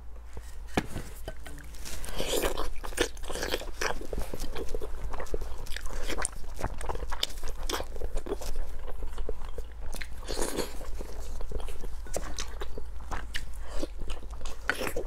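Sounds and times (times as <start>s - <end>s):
person chewing with mouth smacks: 1.2s - 15.0s.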